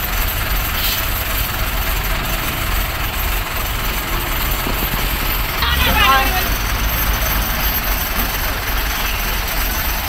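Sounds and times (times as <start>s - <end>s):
diesel truck engine rumble: 0.0s - 10.0s.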